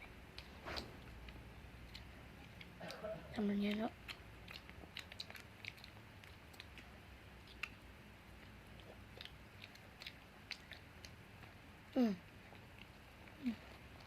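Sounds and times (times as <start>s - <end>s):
chewing sausage: 0.0s - 14.0s.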